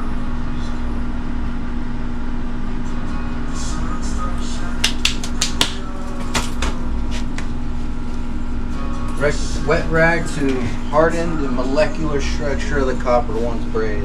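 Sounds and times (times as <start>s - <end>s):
mechanical hum with low rumble: 0.0s - 14.0s.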